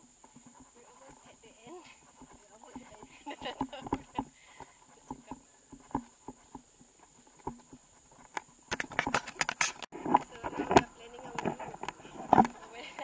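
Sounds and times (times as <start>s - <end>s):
footsteps on a trail: 0.0s - 13.0s
clicks and rustling: 1.8s - 13.0s.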